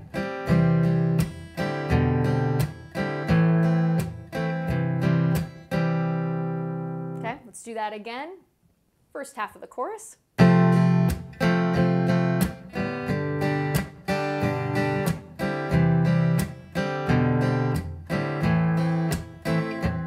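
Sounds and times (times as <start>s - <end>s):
acoustic guitar strumming: 0.0s - 7.4s, 10.4s - 20.0s.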